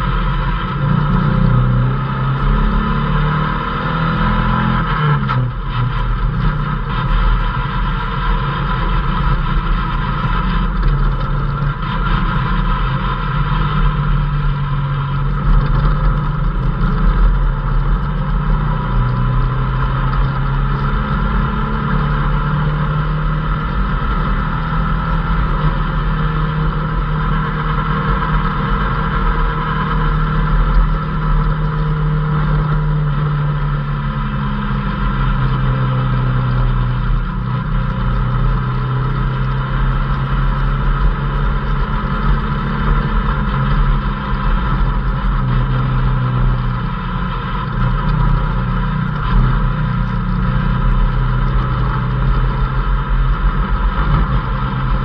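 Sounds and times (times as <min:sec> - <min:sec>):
race vehicle engine revving: 0:00.0 - 0:55.0.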